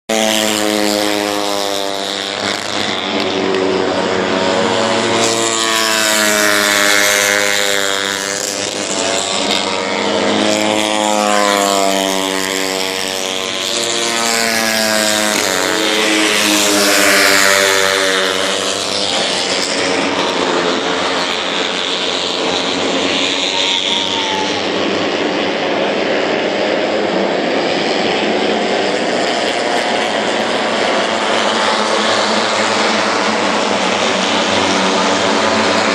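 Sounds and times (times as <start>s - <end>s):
steady engine noise: 0.0s - 35.9s
racing motorcycles passing: 0.1s - 35.9s.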